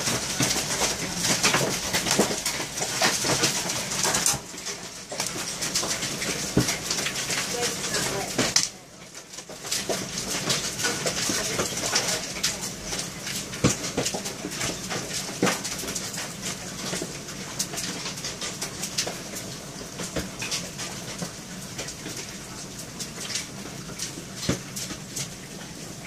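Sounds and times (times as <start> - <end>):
hail and rain on window glass: 0.0 - 26.0.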